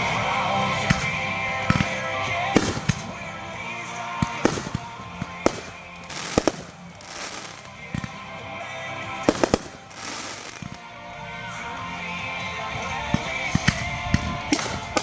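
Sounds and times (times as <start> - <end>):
fireworks bangs: 0.0 - 10.9, 12.9 - 15.0
song playing: 0.0 - 15.0.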